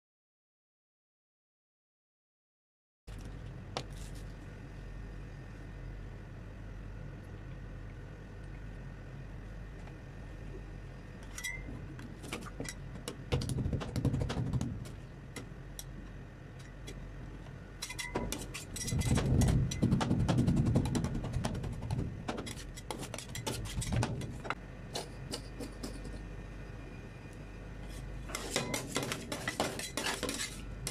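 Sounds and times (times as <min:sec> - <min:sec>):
steady low machine hum: 0:03.1 - 0:30.9.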